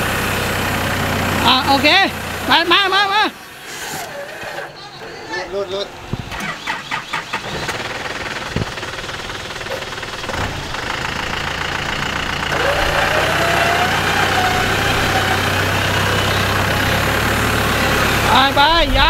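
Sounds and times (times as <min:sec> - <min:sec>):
pickup engine running: 0:00.0 - 0:03.5, 0:05.9 - 0:19.0
winch whine: 0:03.6 - 0:19.0.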